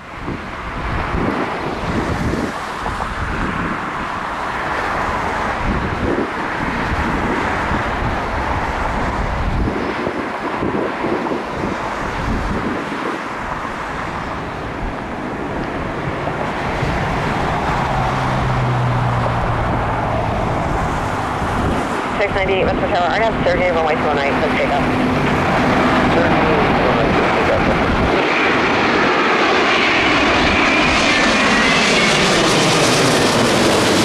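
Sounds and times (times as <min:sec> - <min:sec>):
jet engines roaring: 0:00.0 - 0:34.0
wind buffeting microphone: 0:00.0 - 0:34.0.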